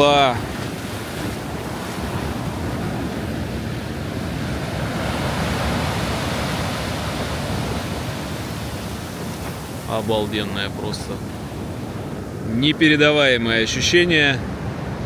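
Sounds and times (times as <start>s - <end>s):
waves breaking and rushing: 0.0s - 15.0s.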